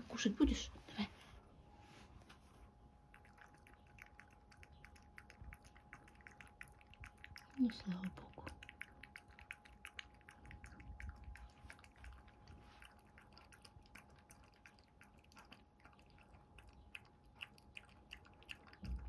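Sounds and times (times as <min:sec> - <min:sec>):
dog licking and smacking: 0:02.5 - 0:19.0.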